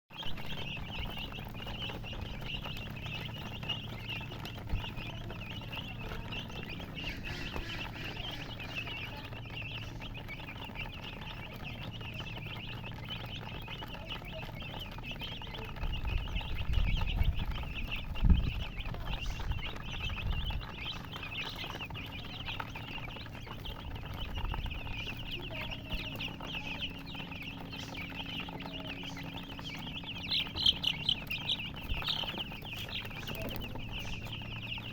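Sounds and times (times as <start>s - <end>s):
chicks peeping: 0.1s - 34.9s
low thumps and rumbles: 0.1s - 34.9s.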